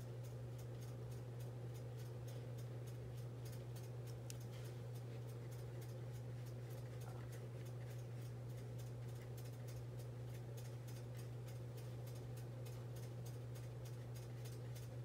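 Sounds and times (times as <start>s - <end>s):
fast faint ticks: 0.0s - 15.0s
steady low hum: 0.0s - 15.0s.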